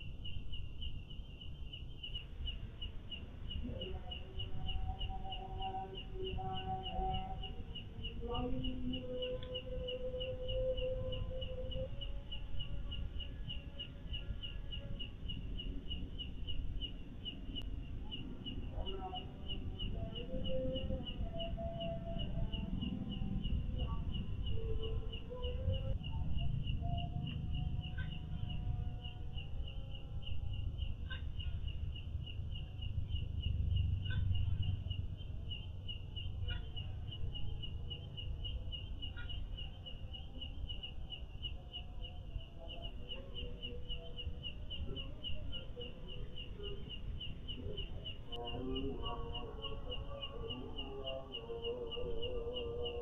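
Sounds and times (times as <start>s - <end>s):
insect chirping: 0.0s - 53.0s
faint wavering calls: 2.5s - 53.0s.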